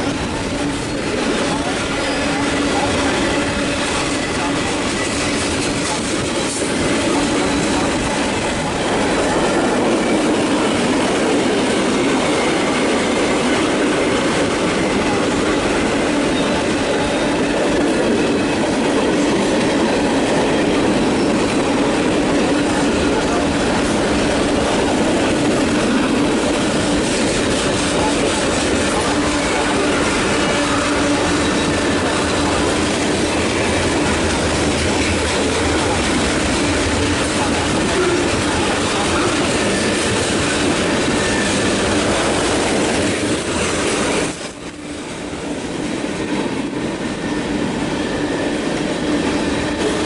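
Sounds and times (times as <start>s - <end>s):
train rumbling past: 0.0s - 50.0s.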